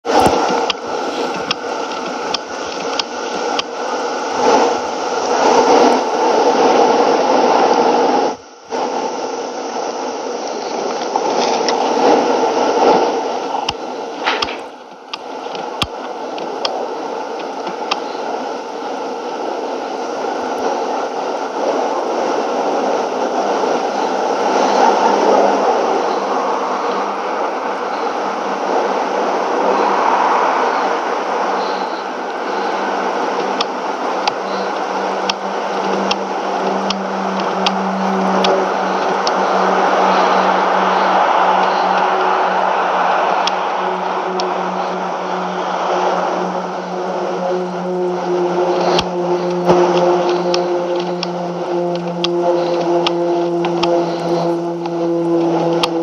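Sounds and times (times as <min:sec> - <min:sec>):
turboprop engines rushing: 0:00.0 - 0:56.0.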